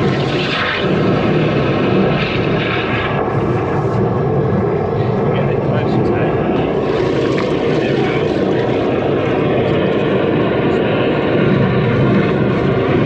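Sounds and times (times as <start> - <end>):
drain-jetting machine running: 0.0 - 13.0.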